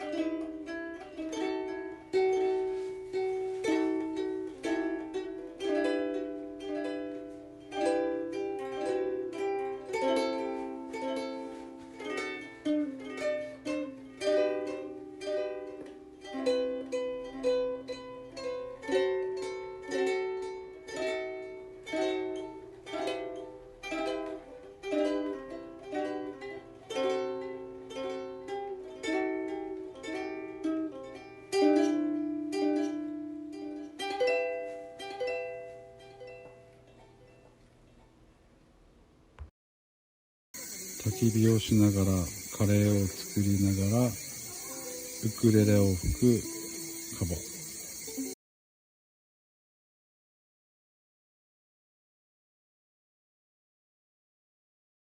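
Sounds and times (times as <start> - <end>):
ukulele playing: 0.0 - 37.0, 40.6 - 48.4.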